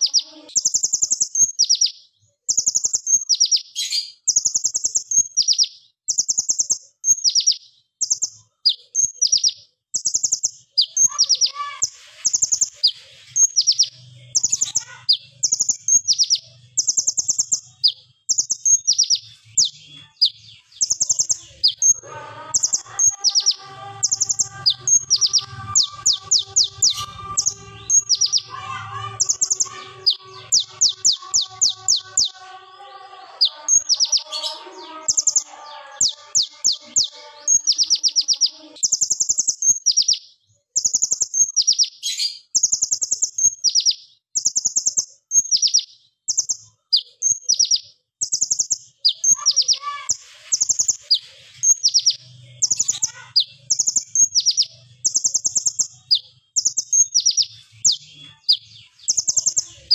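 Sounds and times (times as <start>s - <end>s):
bird singing high trilled bursts: 0.0s - 59.9s.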